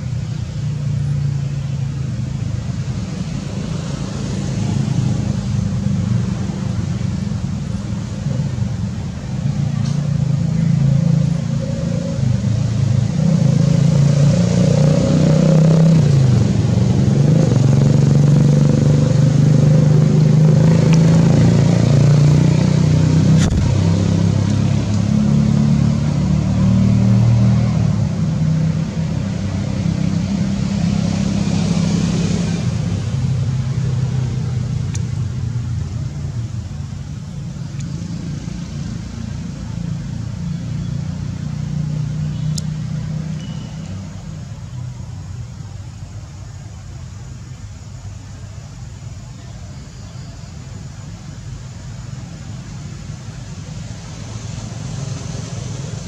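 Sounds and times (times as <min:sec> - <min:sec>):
engine low drone: 0:00.0 - 0:56.0.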